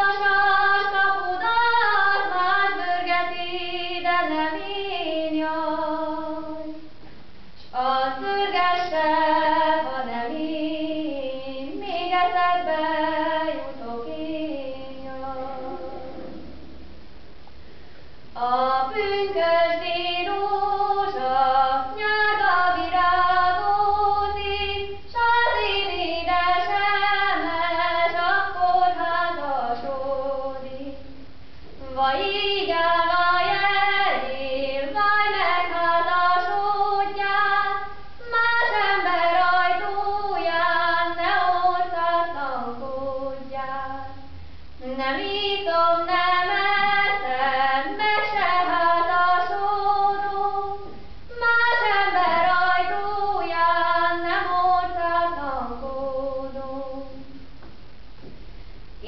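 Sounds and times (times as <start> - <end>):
girl singing folk song: 0.0 - 16.8, 17.8 - 57.6.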